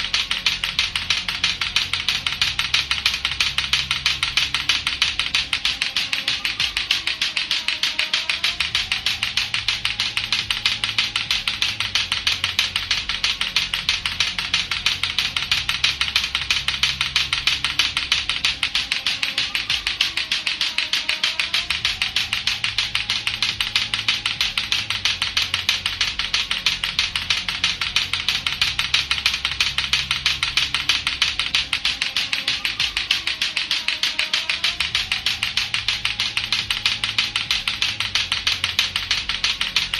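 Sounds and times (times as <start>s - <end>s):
low looping music: 0.0s - 39.9s
plastic clacker toy clacking: 0.0s - 39.9s.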